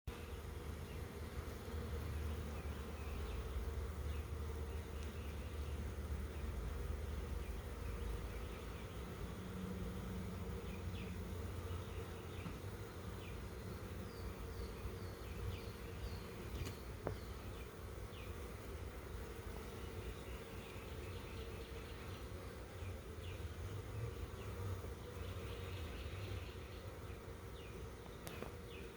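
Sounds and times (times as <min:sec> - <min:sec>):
honey bees buzzing: 0:00.1 - 0:28.9.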